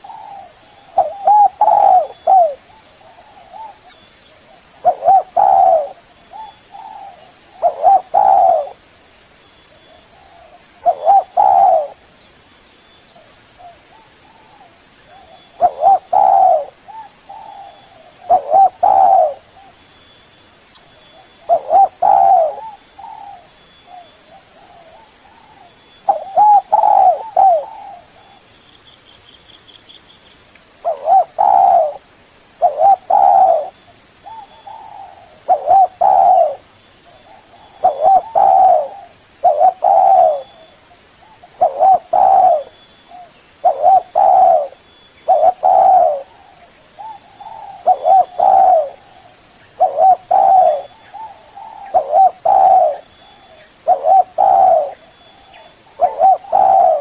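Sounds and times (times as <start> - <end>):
dove cooing: 0.0 - 8.8, 9.9 - 12.0, 13.6 - 19.8, 21.1 - 28.5, 30.8 - 32.0, 32.6 - 57.0.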